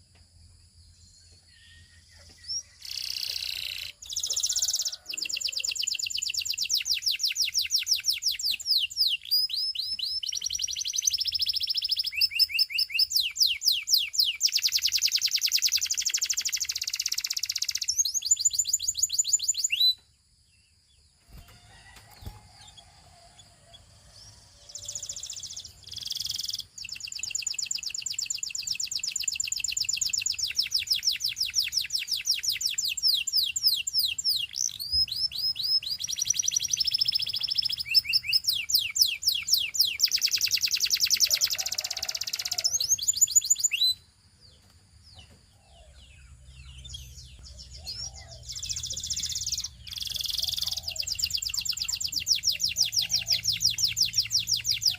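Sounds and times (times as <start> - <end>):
canary singing trills: 1.0 - 20.1, 21.2 - 54.9.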